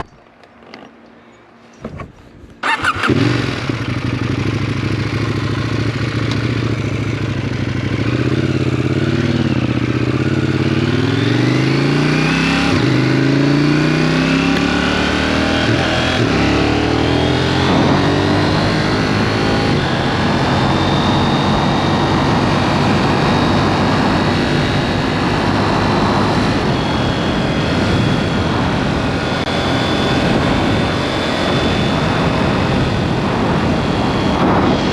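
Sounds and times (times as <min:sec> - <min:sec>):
motorcycle engine revving: 0:02.6 - 0:34.9.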